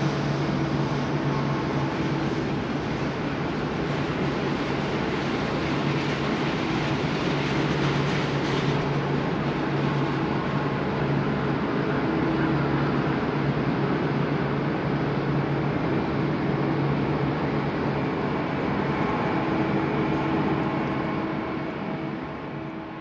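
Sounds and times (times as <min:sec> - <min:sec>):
jet engine rush: 0:00.0 - 0:23.0
low hum: 0:00.0 - 0:23.0.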